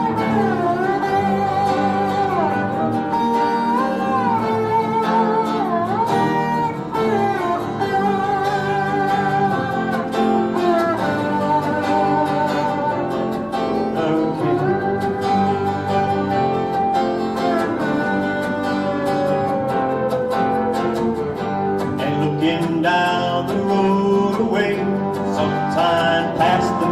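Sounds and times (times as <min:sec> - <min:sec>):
sliding lead melody: 0:00.0 - 0:26.9
strummed acoustic guitar: 0:00.0 - 0:26.9.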